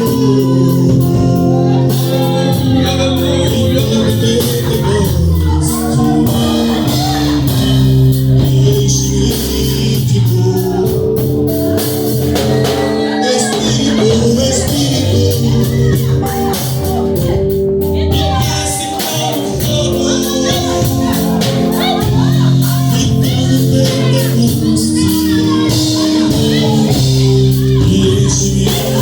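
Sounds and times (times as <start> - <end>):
band playing gospel song: 0.0 - 29.0.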